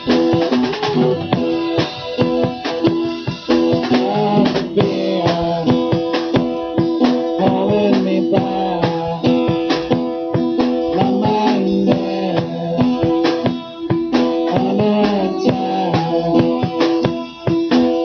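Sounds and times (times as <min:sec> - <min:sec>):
drums keeping a beat: 0:00.0 - 0:18.0
guitar: 0:00.0 - 0:18.0
live band playing: 0:00.0 - 0:18.0.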